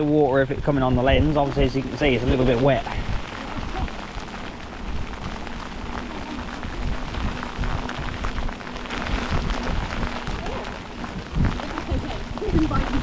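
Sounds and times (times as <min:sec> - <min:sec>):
faint steady hum: 0:00.0 - 0:13.0
rain: 0:00.0 - 0:13.0
wind buffeting microphone: 0:00.0 - 0:13.0.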